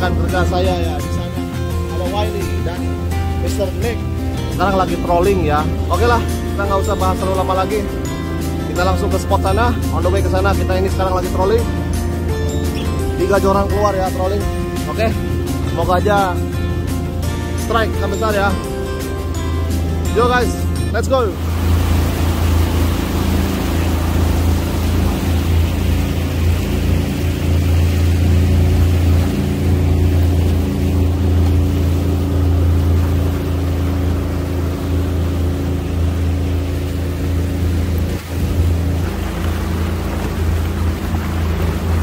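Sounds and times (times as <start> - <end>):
outboard motor drone: 0.0 - 42.0
water rushing: 0.0 - 42.0
wind: 0.0 - 42.0.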